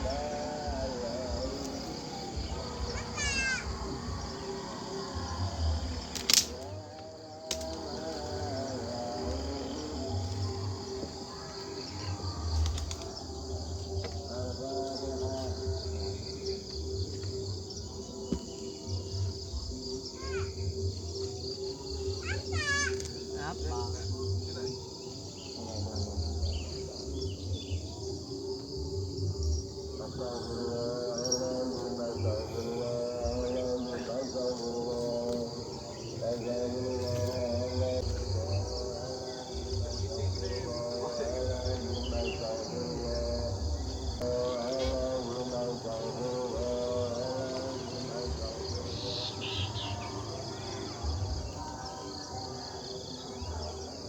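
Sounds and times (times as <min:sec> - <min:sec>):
crickets chirping: 0:00.0 - 0:54.0
insect chorus buzzing: 0:00.0 - 0:54.0.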